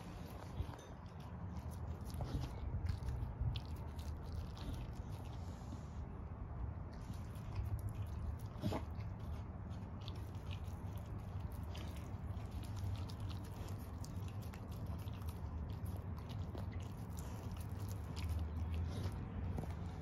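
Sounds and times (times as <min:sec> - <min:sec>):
dog gnawing a bone: 0:00.0 - 0:05.8, 0:06.8 - 0:20.0.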